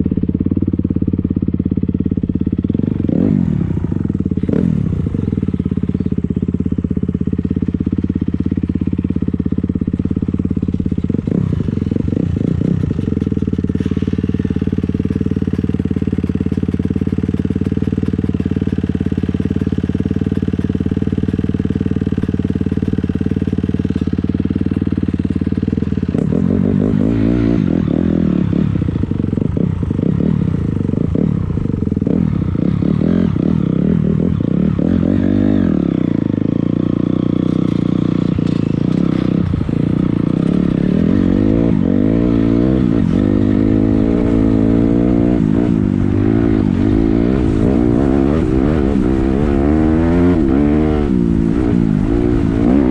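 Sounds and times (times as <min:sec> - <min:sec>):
dirt bike engine revving: 0:01.1 - 0:52.9.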